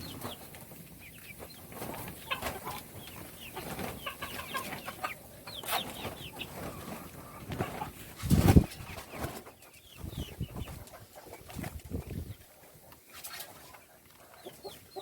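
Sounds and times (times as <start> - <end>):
baby chicks peeping: 0.0 - 15.0.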